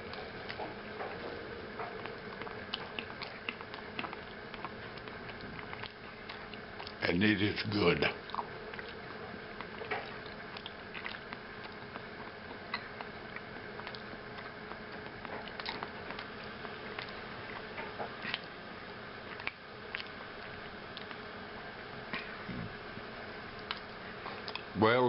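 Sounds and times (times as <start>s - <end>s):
man chewing food: 0.0s - 7.1s, 7.8s - 24.8s
low room hum: 0.0s - 25.0s.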